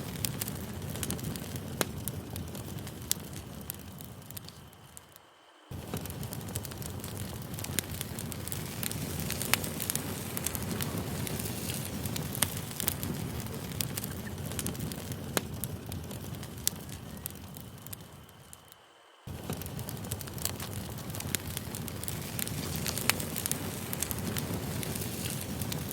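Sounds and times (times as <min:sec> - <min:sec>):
burning wood popping and crackling: 0:00.0 - 0:25.9
rush of flames: 0:00.0 - 0:25.9.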